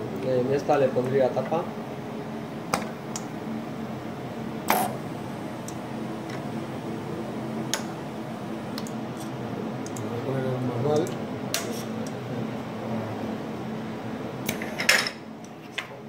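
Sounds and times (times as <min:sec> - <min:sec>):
conveyor drives humming: 0:00.0 - 0:16.0.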